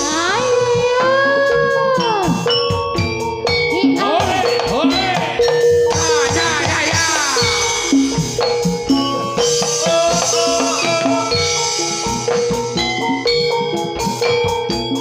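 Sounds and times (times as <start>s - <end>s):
drum strokes: 0.0s - 15.0s
metallophones ringing: 0.0s - 15.0s.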